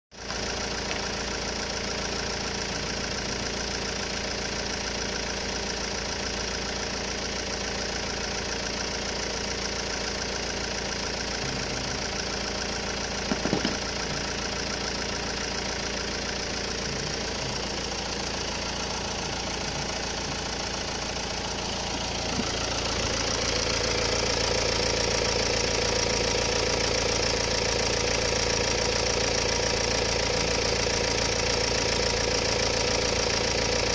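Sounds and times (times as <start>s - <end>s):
diesel engine idling: 0.1s - 33.9s
engine knock: 0.1s - 33.9s.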